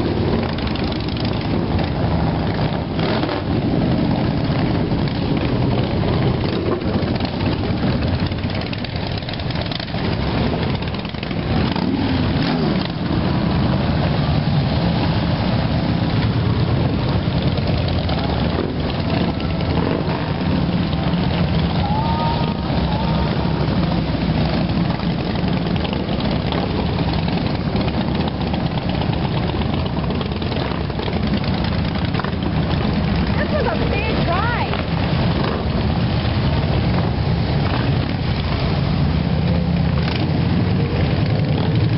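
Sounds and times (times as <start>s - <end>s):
motorcycle engine revving: 0.0s - 41.9s
motorcycle engines running: 0.0s - 41.9s.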